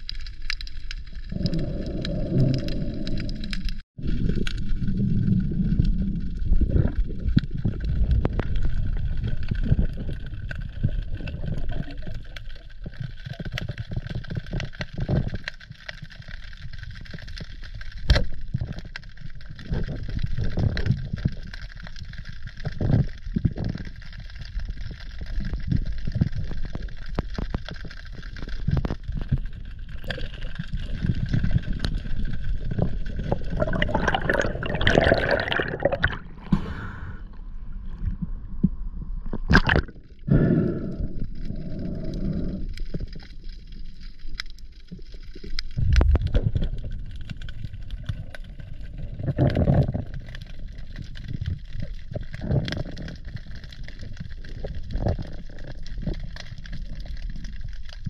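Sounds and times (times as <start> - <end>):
underwater bubbling: 0.0 - 58.0
water gurgling and sloshing: 0.0 - 58.0.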